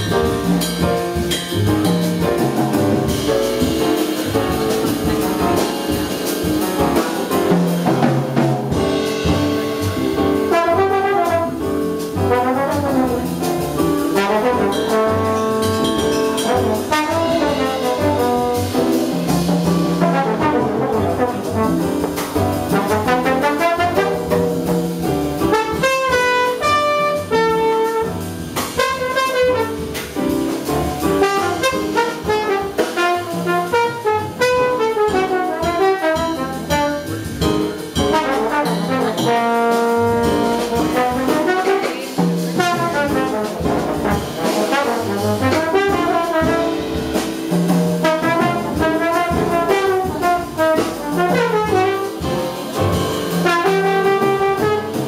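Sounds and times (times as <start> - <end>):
drums: 0.0 - 55.0
piano: 0.0 - 55.0
trombone melody: 0.0 - 55.0
upright bass: 0.0 - 55.0.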